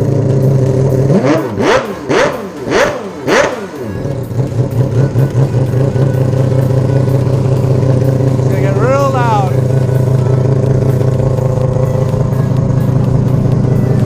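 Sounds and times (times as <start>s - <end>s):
rotary engine revving: 0.0s - 14.0s.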